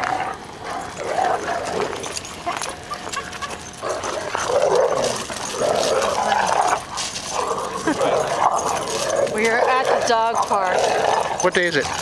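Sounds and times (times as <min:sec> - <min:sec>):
dogs barking and yipping: 0:00.0 - 0:12.0.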